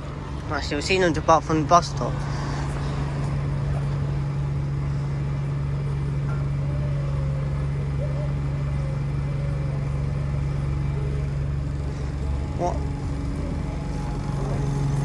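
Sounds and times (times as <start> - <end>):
diesel bus engine idling: 0.0 - 15.0.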